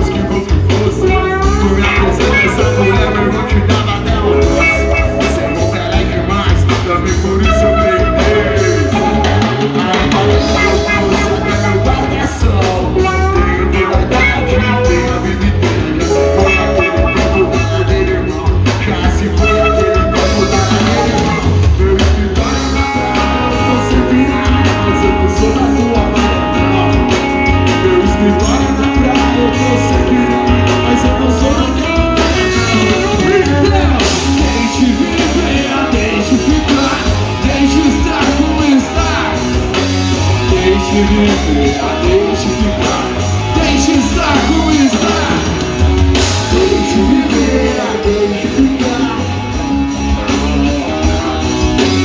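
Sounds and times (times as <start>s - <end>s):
live rock band playing: 0.0s - 52.0s
person singing: 0.0s - 52.0s
steady drum beat: 0.0s - 52.0s.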